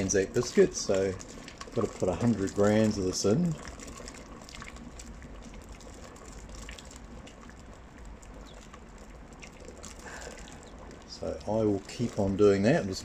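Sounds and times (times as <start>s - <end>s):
liquid boiling and bubbling: 0.0s - 13.0s.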